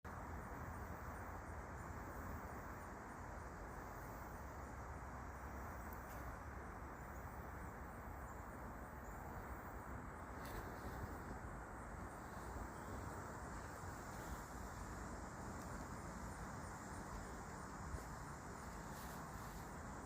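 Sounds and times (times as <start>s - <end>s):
insect chirping: 0.1s - 20.0s
low hiss and rumble: 0.1s - 20.0s.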